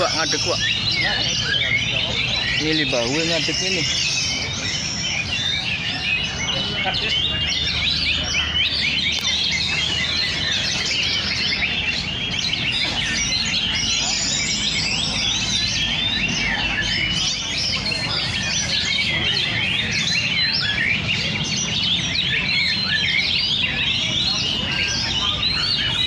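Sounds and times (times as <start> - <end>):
birds singing whistles and chirps: 0.0 - 26.0.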